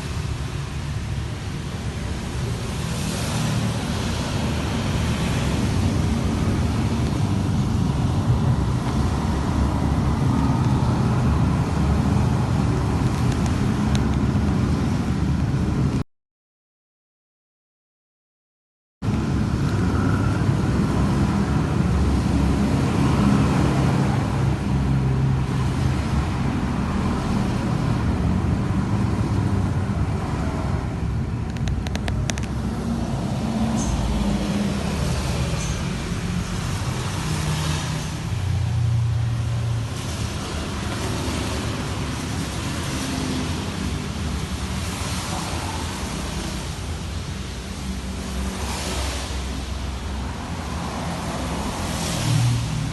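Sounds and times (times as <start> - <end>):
passing cars: 0.0 - 16.0, 19.1 - 52.9.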